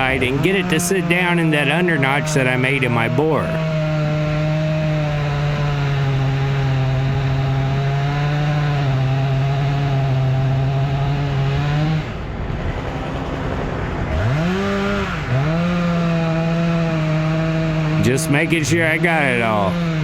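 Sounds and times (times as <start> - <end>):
chainsaw cutting wood: 0.0 - 12.3, 13.5 - 20.0.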